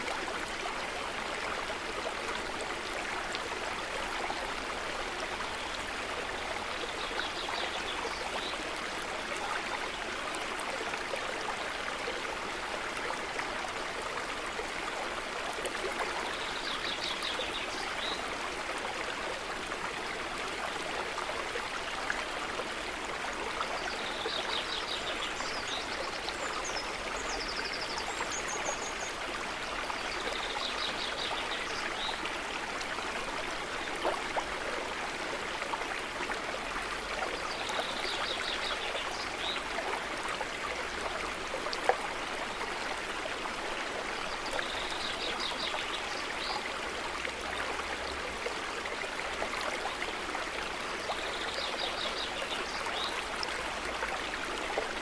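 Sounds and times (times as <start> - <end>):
stream running: 0.0 - 55.0.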